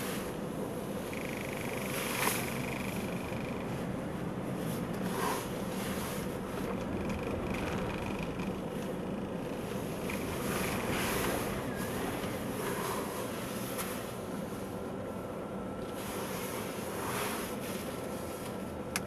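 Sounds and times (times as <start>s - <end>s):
car engine and tyres from cabin: 0.0s - 19.0s.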